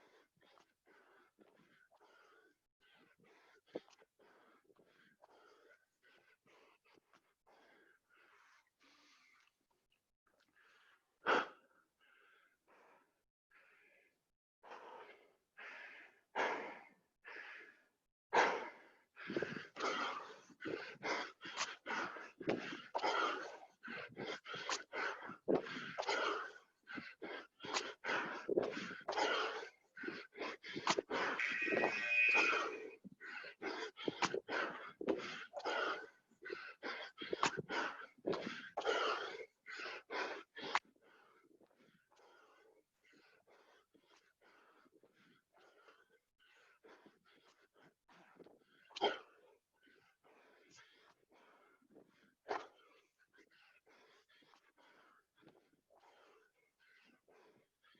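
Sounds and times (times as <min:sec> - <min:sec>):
man breathing hard: 0:00.0 - 0:57.9.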